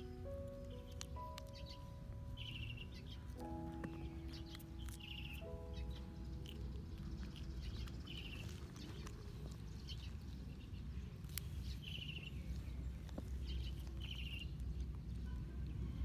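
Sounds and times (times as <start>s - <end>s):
bird chirps: 0.0s - 16.0s
steady low rumble: 0.0s - 16.0s.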